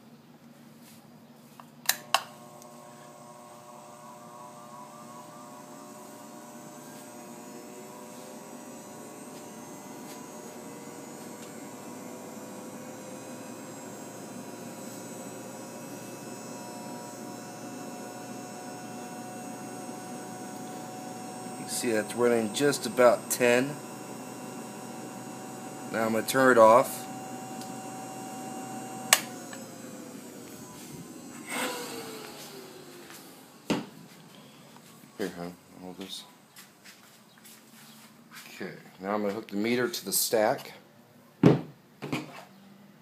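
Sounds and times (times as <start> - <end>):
electric pump motor humming: 1.8 - 37.6.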